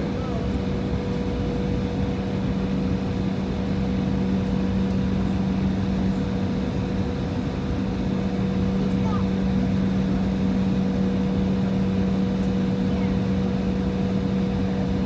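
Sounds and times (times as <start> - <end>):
jet engine cabin drone: 0.0 - 15.0.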